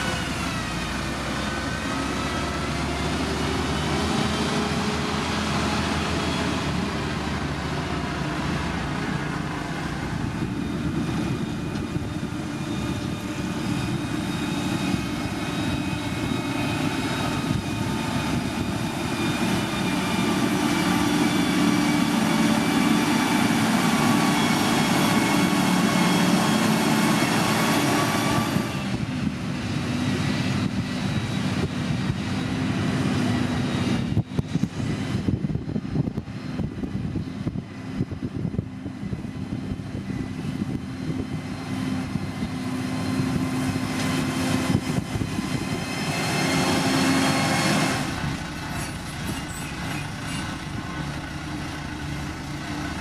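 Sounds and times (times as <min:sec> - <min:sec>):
diesel construction machine engine: 0:00.0 - 0:53.0.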